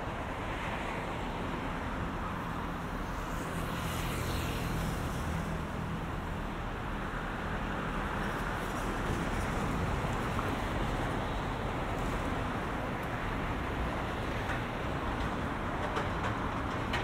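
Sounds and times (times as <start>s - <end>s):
road noise hum: 0.0s - 17.0s.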